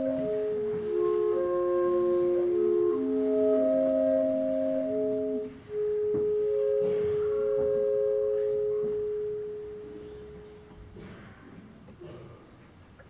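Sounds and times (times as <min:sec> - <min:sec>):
clarinets holding sustained notes: 0:00.0 - 0:10.7.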